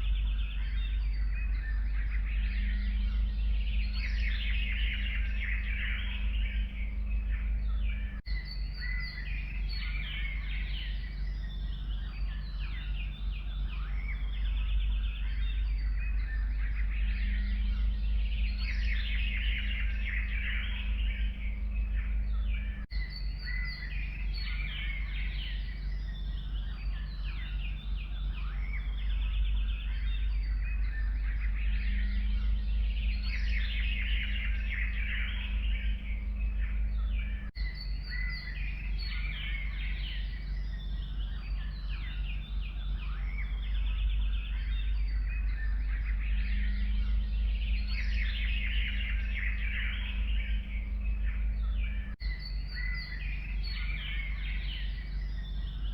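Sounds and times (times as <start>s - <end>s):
songbirds chirping and singing: 0.0s - 55.9s
steady low rumble: 0.0s - 55.9s.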